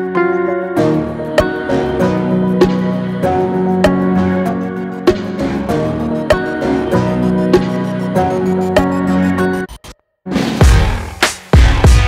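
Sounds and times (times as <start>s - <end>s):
gentle instrumental music: 0.0s - 9.7s.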